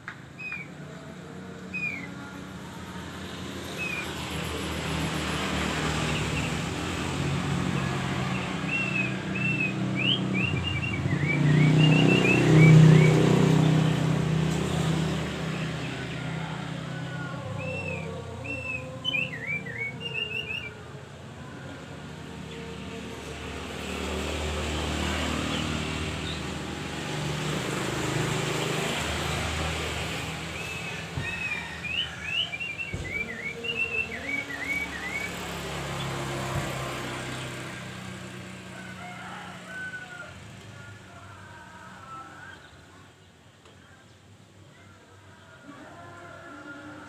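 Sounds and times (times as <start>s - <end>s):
songbird chirping: 0.0s - 38.6s
vehicle passing by: 0.3s - 42.5s.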